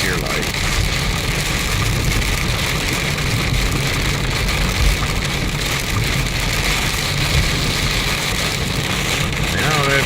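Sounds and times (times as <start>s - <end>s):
low road rumble: 0.0s - 10.0s
rain hitting car: 0.0s - 10.0s.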